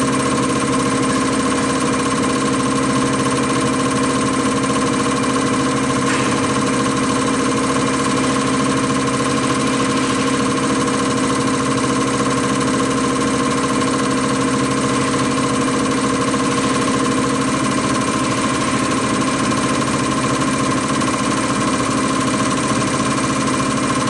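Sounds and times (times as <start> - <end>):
test bench mechanical hum: 0.0 - 24.0.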